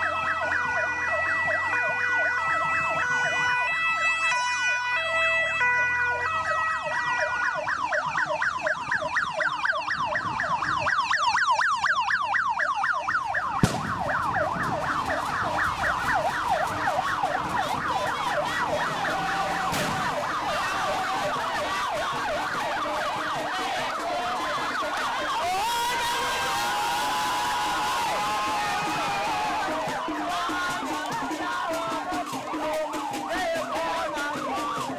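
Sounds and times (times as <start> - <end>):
vehicle siren yelping: 0.0 - 34.9.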